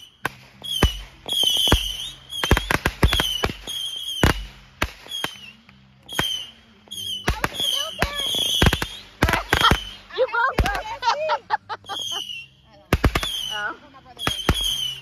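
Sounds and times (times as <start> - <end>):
fireworks high whistles: 0.0 - 11.0, 11.8 - 15.0
fireworks bangs and pops: 0.0 - 15.0.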